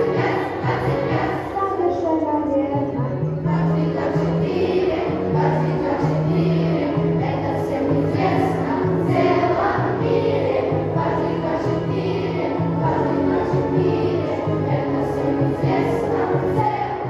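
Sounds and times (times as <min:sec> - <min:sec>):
children's choir singing: 0:00.0 - 0:02.0, 0:03.4 - 0:17.0.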